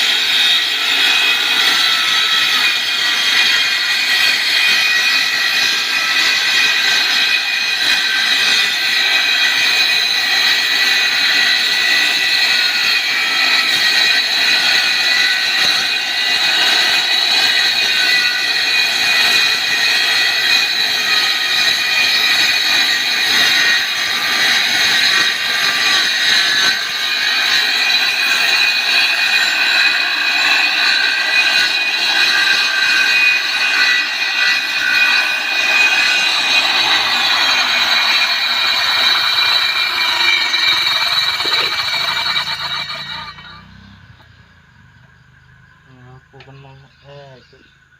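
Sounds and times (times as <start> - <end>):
circular saw cutting wood: 0.0 - 45.1.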